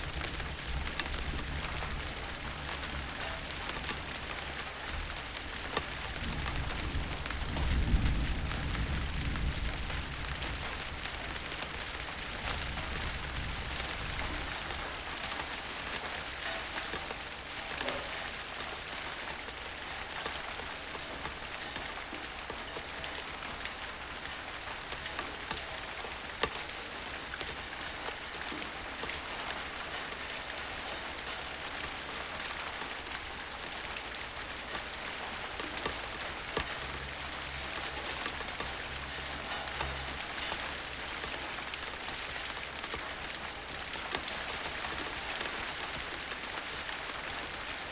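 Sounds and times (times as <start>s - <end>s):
raindrop ticks: 0.0s - 47.9s
steady rain falling: 0.0s - 47.9s.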